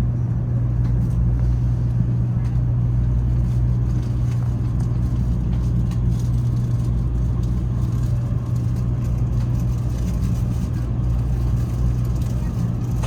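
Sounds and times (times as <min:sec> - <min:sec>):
train cabin rumble and hum: 0:00.0 - 0:13.0.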